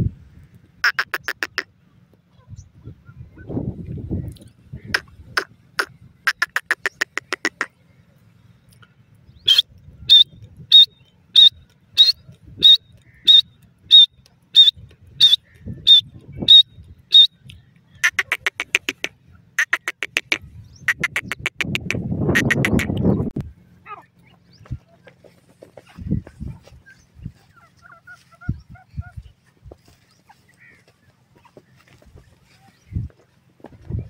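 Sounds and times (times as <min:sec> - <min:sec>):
low rumbling noise: 0:00.0 - 0:30.2
francolins calling: 0:00.7 - 0:03.6, 0:04.2 - 0:23.2, 0:23.8 - 0:33.4.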